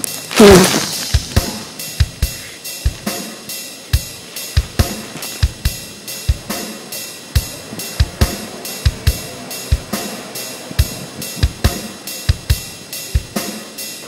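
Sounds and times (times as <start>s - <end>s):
hi-hat ticks: 1.0s - 14.0s.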